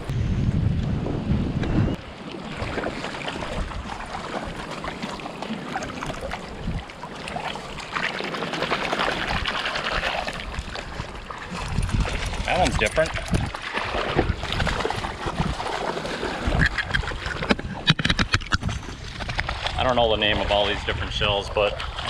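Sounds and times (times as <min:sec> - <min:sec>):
wind buffeting microphone: 0:00.0 - 0:08.1, 0:08.9 - 0:22.0.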